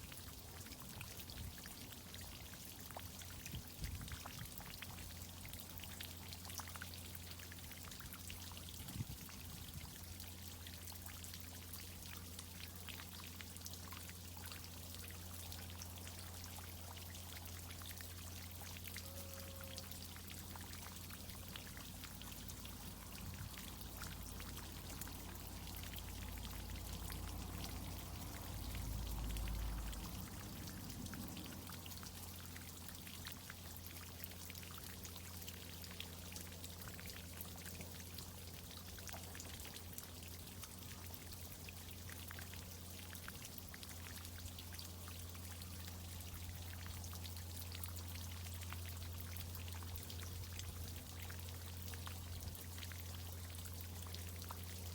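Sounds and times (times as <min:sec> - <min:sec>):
water pouring and dripping: 0:00.0 - 0:54.9.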